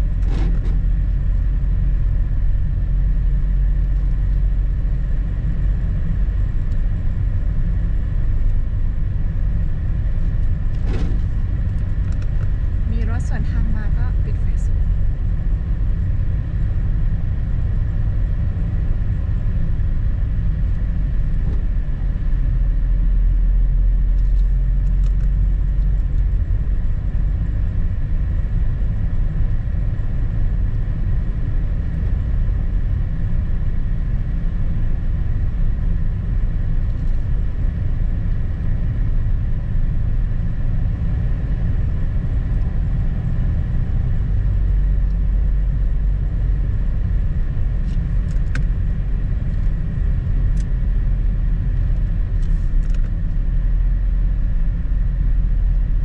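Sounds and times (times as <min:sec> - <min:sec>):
engine and tyre rumble: 0:00.0 - 0:56.0.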